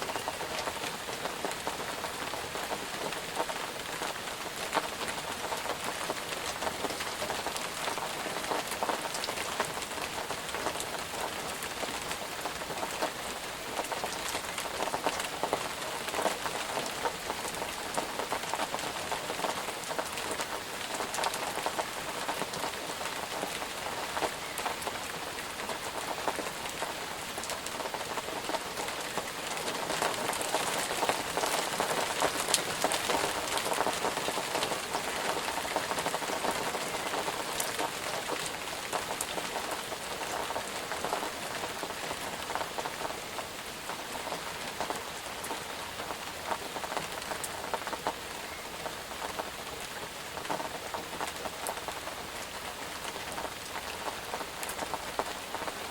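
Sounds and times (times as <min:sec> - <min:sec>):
rain on a hard surface: 0:00.0 - 0:55.9.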